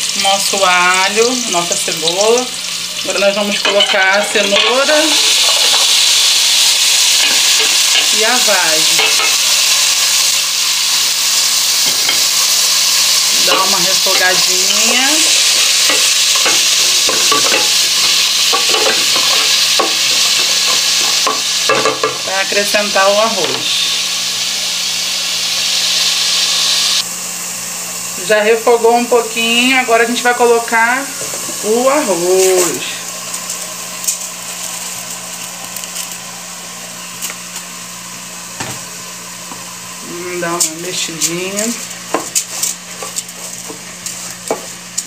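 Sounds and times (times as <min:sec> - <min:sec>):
vegetables sizzling in oil: 0:00.0 - 0:45.0.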